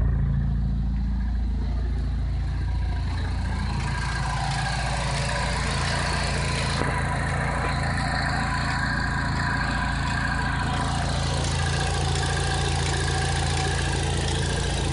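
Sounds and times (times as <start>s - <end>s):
car engine idling roughly: 0.0s - 14.9s.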